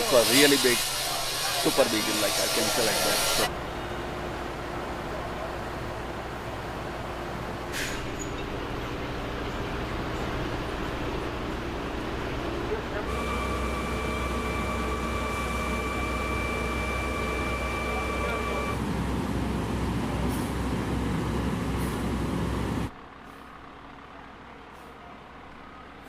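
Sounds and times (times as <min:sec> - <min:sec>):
heavy vehicle engines rumbling: 0:00.0 - 0:26.0.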